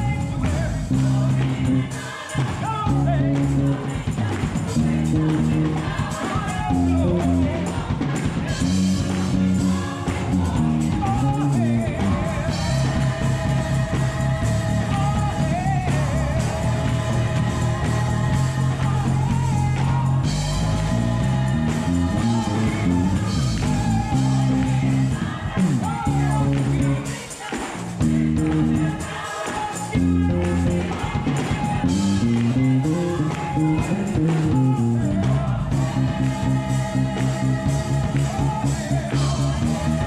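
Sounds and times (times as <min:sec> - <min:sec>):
electric bass line: 0:00.0 - 0:27.2, 0:27.8 - 0:29.2, 0:29.8 - 0:40.0
gospel song with choir: 0:00.0 - 0:40.0.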